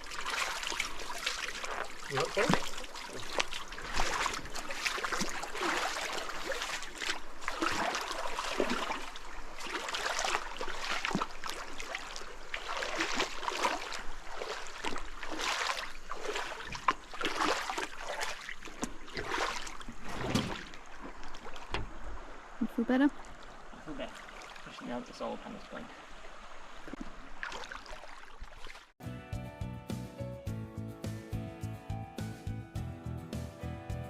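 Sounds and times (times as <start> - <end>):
water splashing and sloshing: 0.0 - 29.0.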